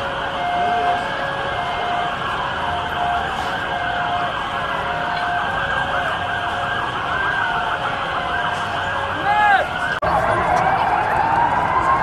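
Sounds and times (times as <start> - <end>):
emergency vehicle sirens wailing: 0.0 - 12.0
yelping siren sweep: 0.0 - 12.0.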